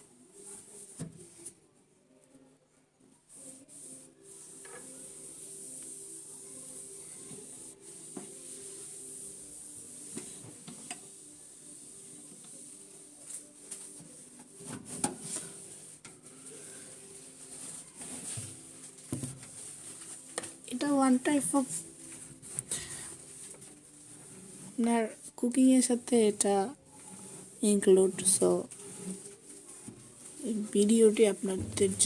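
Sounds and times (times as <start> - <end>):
cloth scrubbing inside microwave: 3.6 - 32.0.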